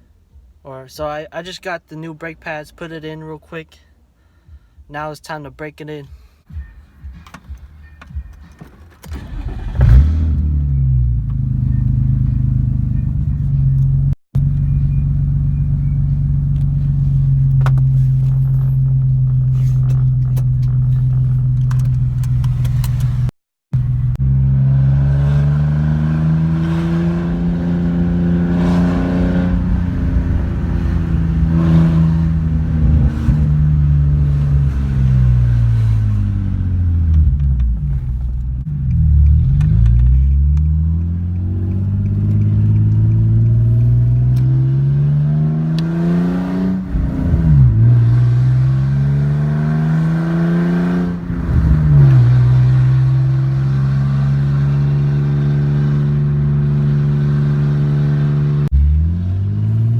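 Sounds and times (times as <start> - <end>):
car engine accelerating and slowing: 6.5 - 59.9.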